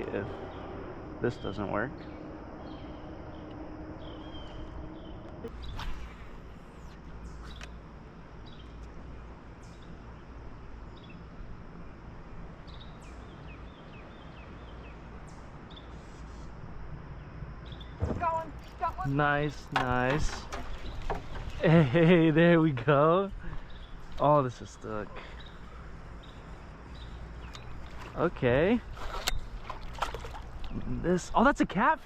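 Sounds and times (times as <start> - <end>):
low hum: 0.0 - 31.6
small birds chirping: 0.0 - 32.0.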